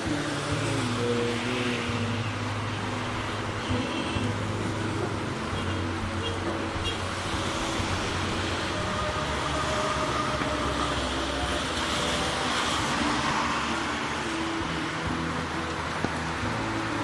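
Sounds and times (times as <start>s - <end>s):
heavy rain pouring: 0.0s - 17.0s
traffic hum: 0.0s - 17.0s.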